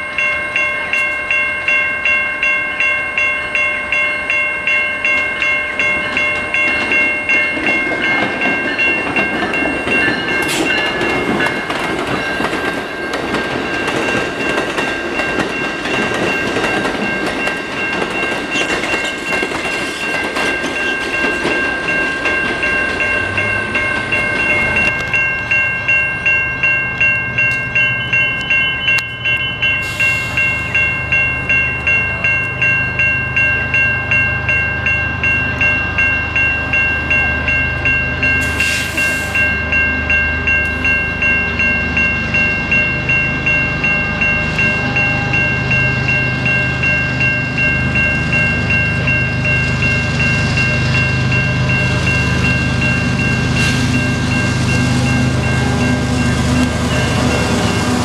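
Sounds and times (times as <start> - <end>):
diesel locomotive drone: 0.0 - 58.0
passenger train passing: 0.0 - 58.0
warning bell ringing: 0.0 - 58.0.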